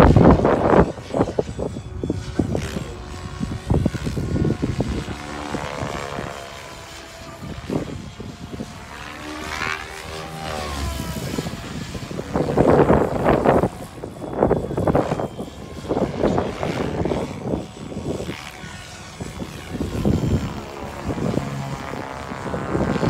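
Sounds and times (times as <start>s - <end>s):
rc helicopter rotor whine: 0.0s - 23.0s
wind buffeting microphone: 0.0s - 23.0s.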